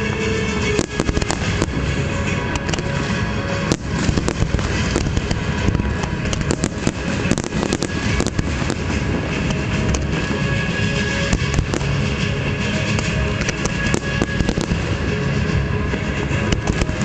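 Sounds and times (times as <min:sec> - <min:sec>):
fireworks bursting: 0:00.0 - 0:17.0
low rumble: 0:00.0 - 0:17.0.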